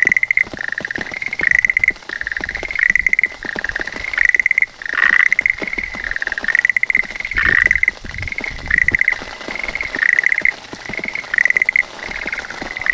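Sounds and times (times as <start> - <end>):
tree frogs calling: 0.0 - 12.9.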